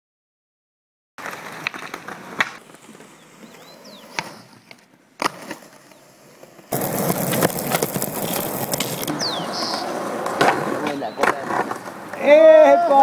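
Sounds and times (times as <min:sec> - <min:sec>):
skateboard clacking on ground: 0:01.2 - 0:13.0
skateboard rolling on concrete: 0:01.2 - 0:13.0.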